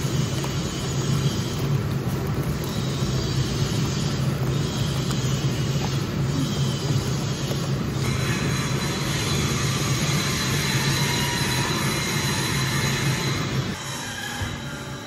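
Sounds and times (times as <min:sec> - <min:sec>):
cooking mixer churning paste: 0:00.0 - 0:15.0.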